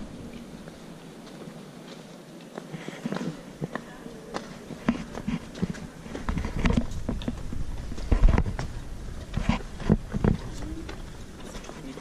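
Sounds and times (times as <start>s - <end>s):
footsteps on concrete and stone: 0.0s - 12.0s.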